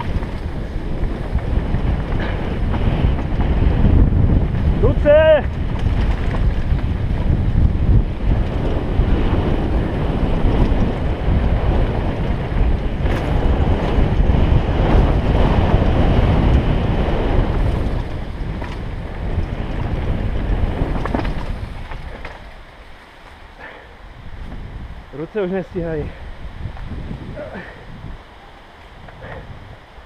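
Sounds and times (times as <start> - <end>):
tyres rumbling over rocky trail: 0.0 - 30.0
wind buffeting microphone: 0.0 - 30.0.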